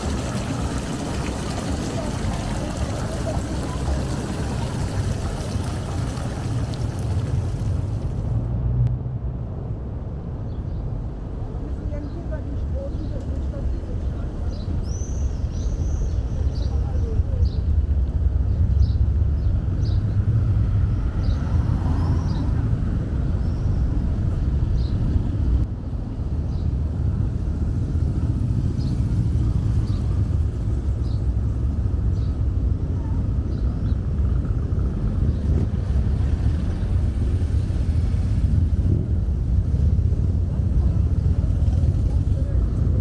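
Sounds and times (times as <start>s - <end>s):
low traffic rumble: 0.0s - 43.0s.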